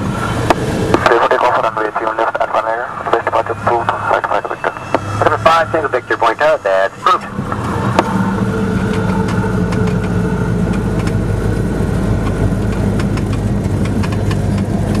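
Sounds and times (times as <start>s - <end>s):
airplane engine and propeller running: 0.0s - 15.0s.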